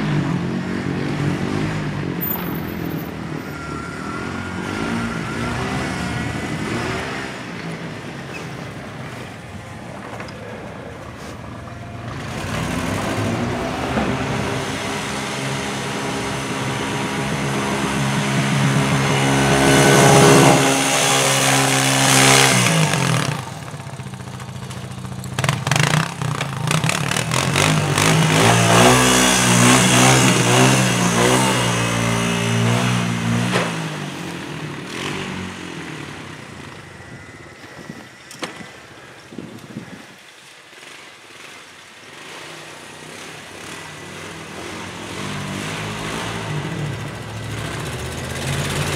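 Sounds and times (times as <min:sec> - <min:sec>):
snow plow engines revving: 0:00.0 - 0:48.9.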